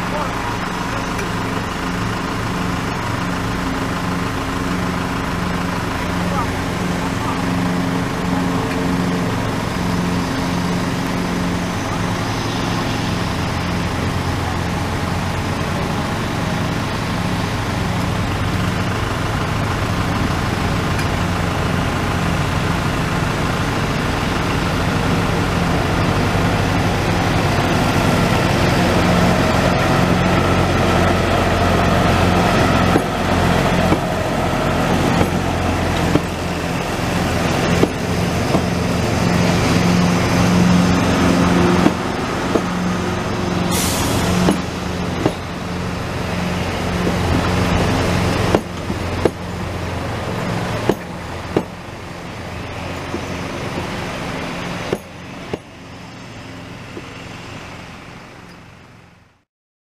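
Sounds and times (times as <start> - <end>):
train wheels clacking over rails: 0.0 - 55.8
diesel locomotive engine running: 0.0 - 59.4.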